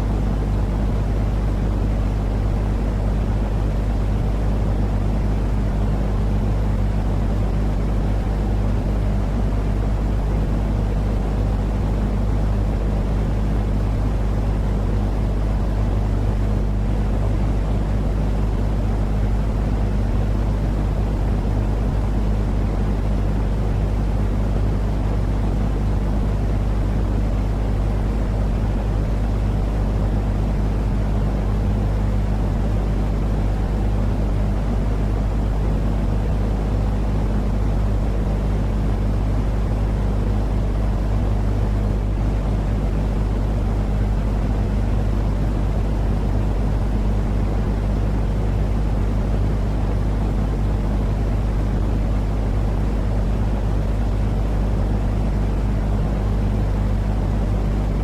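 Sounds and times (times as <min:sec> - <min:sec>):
constant low hum: 0:00.0 - 0:58.0.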